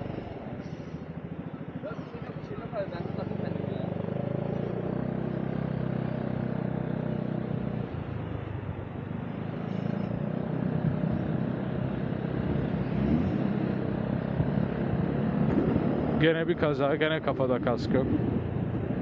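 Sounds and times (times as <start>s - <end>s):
motorcycle engine: 0.0s - 16.9s
road and wind noise: 0.0s - 19.0s.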